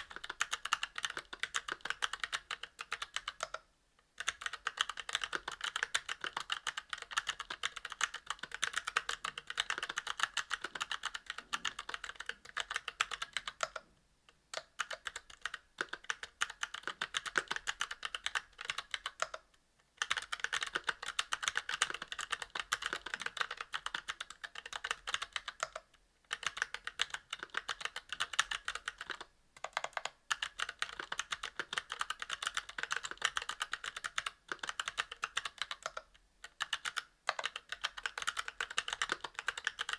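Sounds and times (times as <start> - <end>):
typing on mechanical keyboard: 0.0 - 13.8, 14.6 - 39.9.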